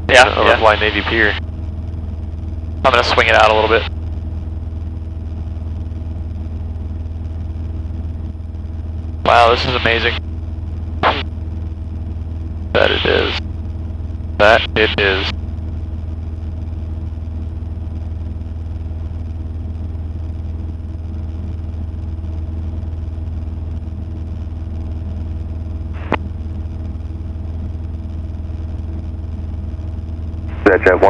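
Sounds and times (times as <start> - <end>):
airplane engine and propeller droning: 0.0 - 31.0.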